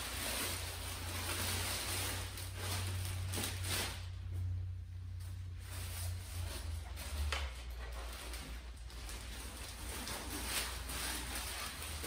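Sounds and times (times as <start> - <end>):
packaging rustling and scraping: 0.0 - 12.0.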